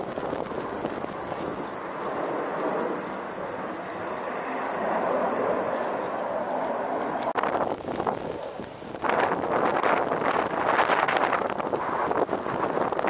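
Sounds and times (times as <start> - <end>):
fighter jets roaring overhead: 0.0 - 13.0.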